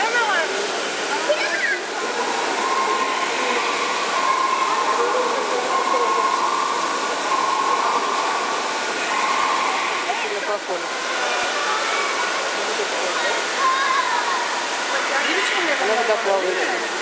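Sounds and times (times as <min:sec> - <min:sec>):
faint voices: 0:00.0 - 0:17.0
rushing water and air-handling: 0:00.0 - 0:17.0.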